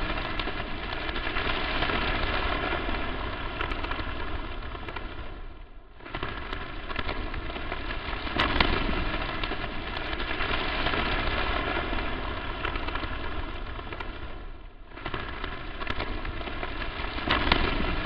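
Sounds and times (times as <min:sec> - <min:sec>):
crackling static hiss: 0:00.0 - 0:18.0.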